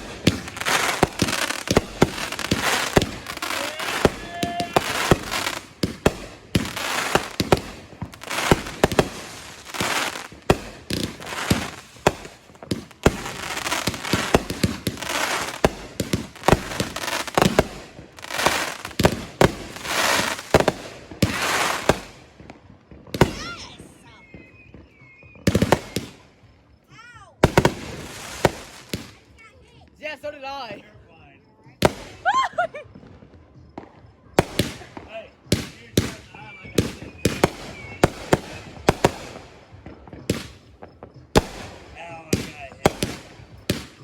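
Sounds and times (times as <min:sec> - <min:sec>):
fireworks bangs and crackling: 0:00.0 - 0:30.8, 0:31.6 - 0:44.0.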